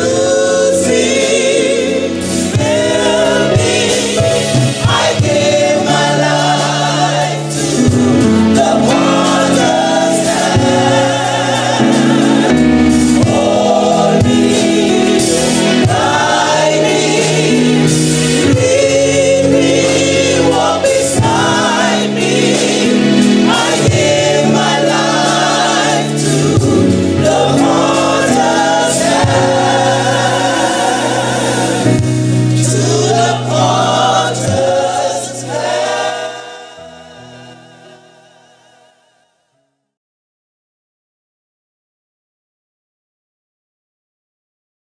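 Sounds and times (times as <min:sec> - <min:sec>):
gospel choir singing: 0:00.0 - 0:39.3.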